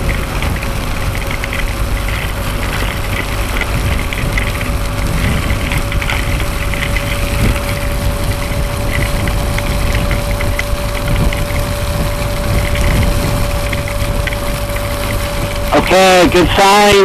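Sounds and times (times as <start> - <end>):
motorcycle engine rumble: 0.0 - 17.0
rain crackling on microphone: 0.0 - 17.0.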